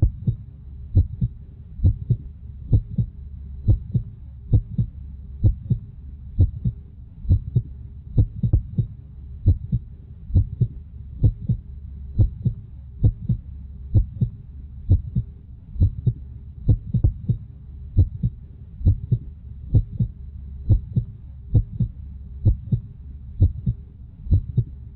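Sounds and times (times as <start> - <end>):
heartbeat double thumps: 0.0 - 24.8
low steady hum: 0.0 - 24.9.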